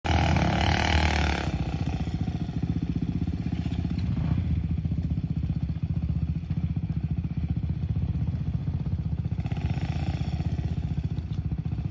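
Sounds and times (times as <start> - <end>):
dirt bike engine revving and chugging: 0.1 - 11.9.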